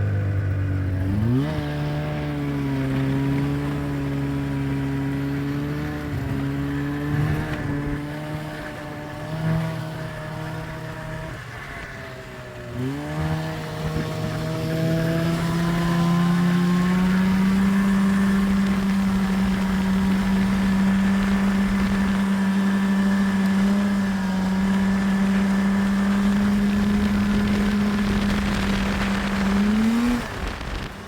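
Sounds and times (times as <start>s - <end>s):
snowmobile engine running: 0.0s - 31.0s.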